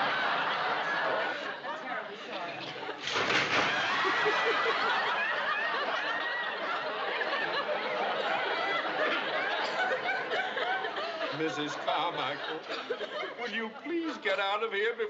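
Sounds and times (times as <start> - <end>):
studio audience laughing: 0.0 - 14.6.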